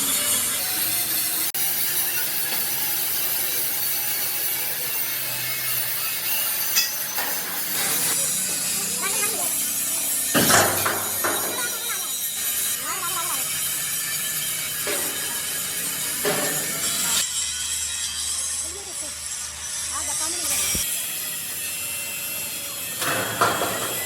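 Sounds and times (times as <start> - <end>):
metal fabrication rasping hiss: 0.0 - 24.0.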